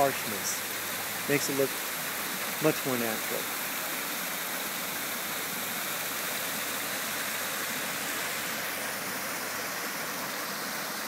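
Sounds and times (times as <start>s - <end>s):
waterfall splashing into pool: 0.0s - 11.0s.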